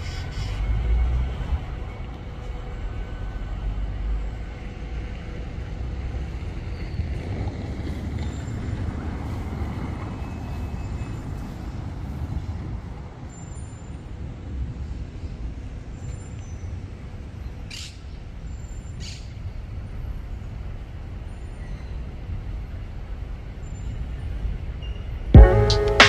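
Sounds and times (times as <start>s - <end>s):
city traffic rumble: 0.0s - 26.0s.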